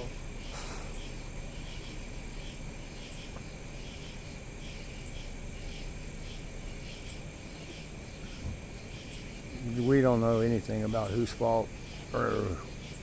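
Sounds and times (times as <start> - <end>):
crickets chirping: 0.0 - 13.0
thin steady high tone: 0.0 - 13.0.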